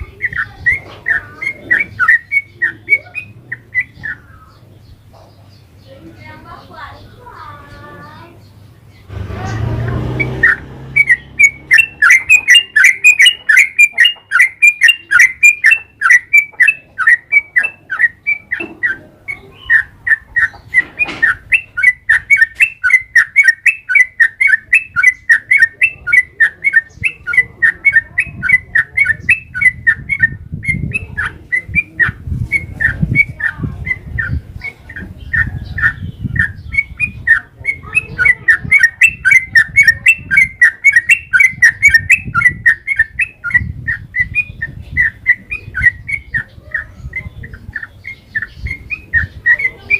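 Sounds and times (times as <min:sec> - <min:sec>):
bulbul chirping: 0:00.0 - 0:04.7, 0:08.9 - 0:49.9.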